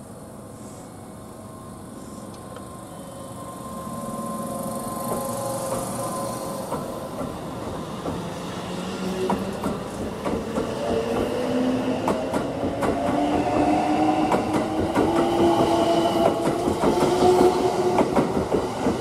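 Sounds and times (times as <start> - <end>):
electric train whine: 0.0 - 19.0
train running rumble: 1.5 - 19.0.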